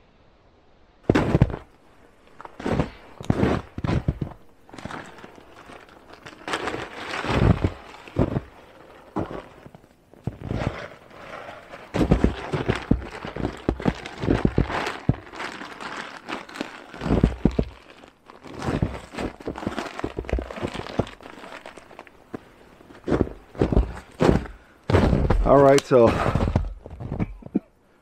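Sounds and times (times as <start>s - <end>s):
boots crunching in snow: 1.1s - 1.7s, 2.3s - 27.4s
plastic bag rustling: 1.1s - 26.7s.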